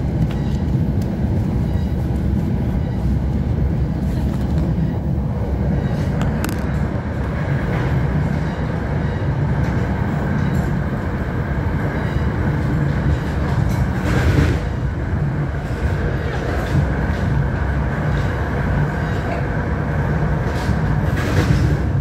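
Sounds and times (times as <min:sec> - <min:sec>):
train car rattle: 0:00.0 - 0:22.0
train wheels rumbling on rails: 0:00.0 - 0:22.0.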